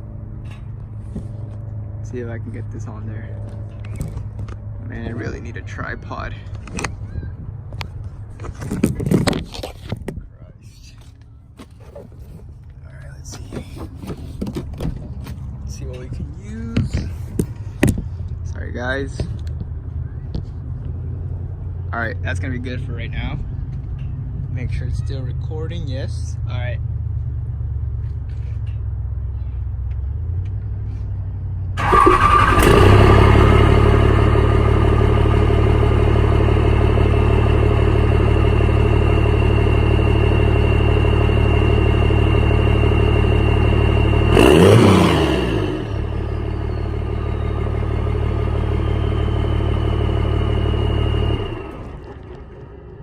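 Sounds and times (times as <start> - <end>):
diesel engine starting and running: 0.0 - 53.0.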